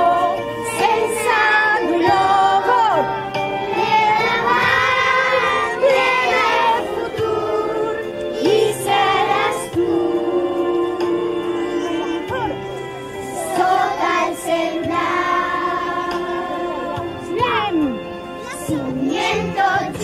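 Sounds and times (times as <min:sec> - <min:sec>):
children's choir singing: 0:00.0 - 0:12.3, 0:13.2 - 0:17.4, 0:18.5 - 0:20.0.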